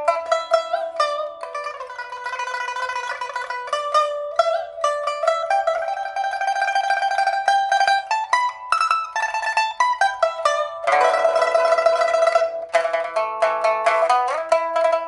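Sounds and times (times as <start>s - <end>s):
plucked lute melody: 0.0s - 15.0s.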